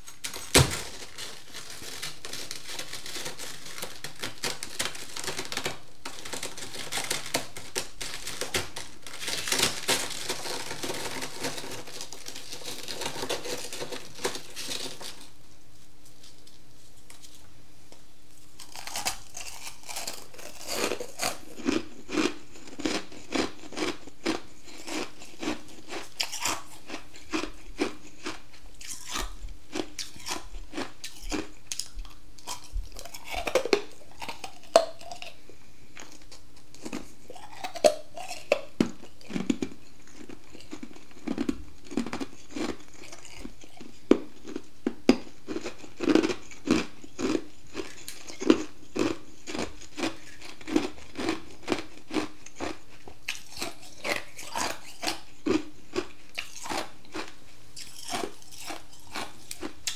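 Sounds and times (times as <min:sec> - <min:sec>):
frost being chewed crunching: 0:00.0 - 0:15.4, 0:18.3 - 0:59.9.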